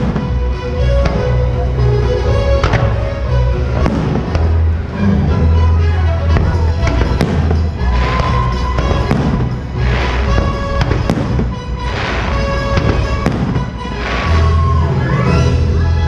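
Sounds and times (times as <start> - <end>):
fireworks bangs and crackling: 0.0 - 5.0, 6.3 - 15.4.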